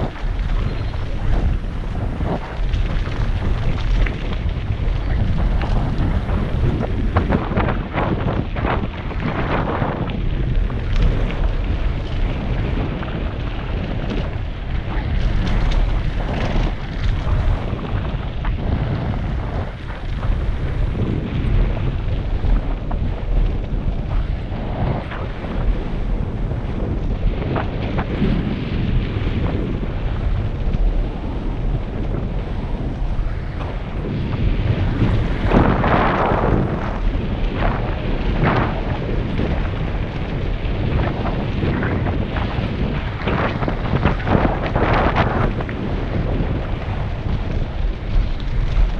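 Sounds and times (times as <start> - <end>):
bike rattles and crunches: 0.0 - 48.9
wind buffeting microphone: 0.0 - 48.9.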